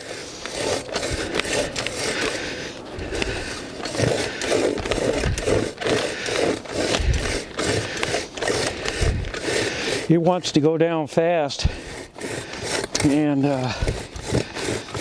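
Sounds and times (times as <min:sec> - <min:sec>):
post hole reamer scraping soil: 0:00.0 - 0:15.0.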